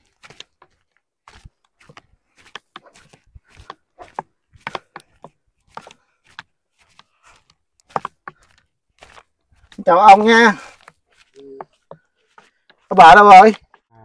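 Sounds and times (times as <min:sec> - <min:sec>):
footsteps on dirt and grass: 0:00.0 - 0:14.0.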